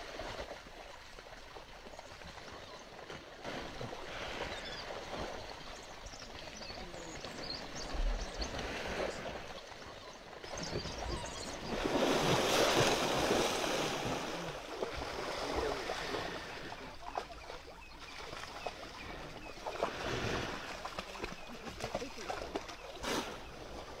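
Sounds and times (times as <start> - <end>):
river water splashing and churning: 0.0 - 24.0.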